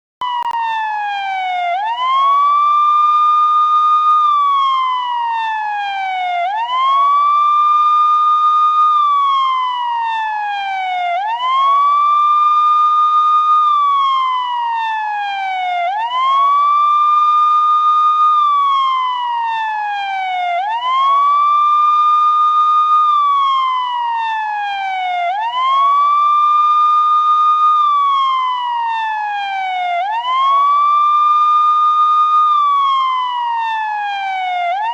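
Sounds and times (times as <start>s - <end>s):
police siren wailing: 0.2s - 34.9s.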